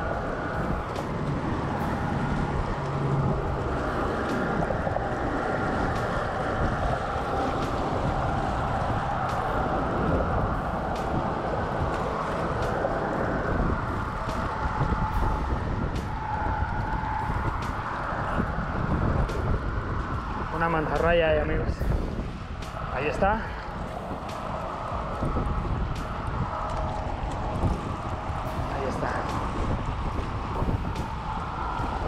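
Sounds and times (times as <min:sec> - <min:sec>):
steady low rumble: 0:00.0 - 0:32.0
waves lapping on rocky shore: 0:00.0 - 0:32.0
wind buffeting microphone: 0:00.0 - 0:32.0.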